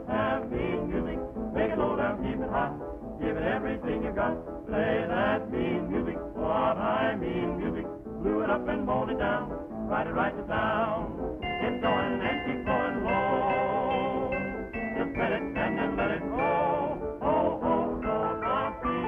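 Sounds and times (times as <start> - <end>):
men's chorus singing with vibrato: 0.0 - 19.0.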